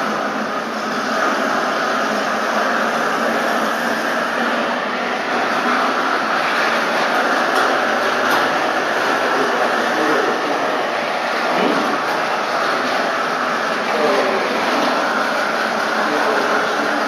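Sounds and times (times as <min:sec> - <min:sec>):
machine running hum: 0:00.0 - 0:17.0.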